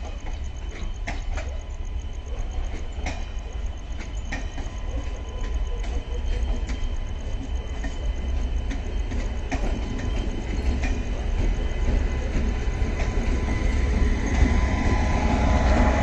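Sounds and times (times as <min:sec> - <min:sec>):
low train rumble: 0:00.0 - 0:16.0
train wheels clicking over rail joints: 0:00.0 - 0:16.0.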